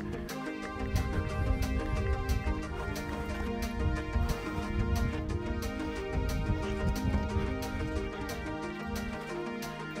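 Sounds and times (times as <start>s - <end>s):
deep bass line: 0.0s - 9.2s
music with steady beat: 0.0s - 10.0s.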